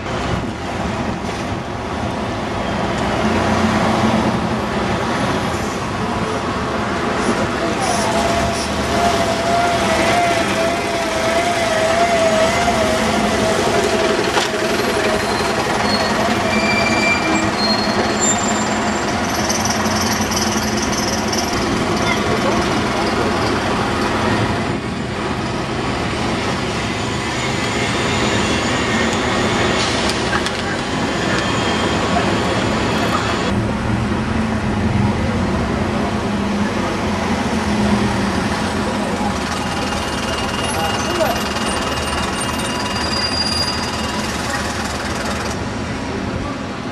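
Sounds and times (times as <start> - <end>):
buses driving past: 0.0 - 46.9
street traffic: 0.0 - 46.9.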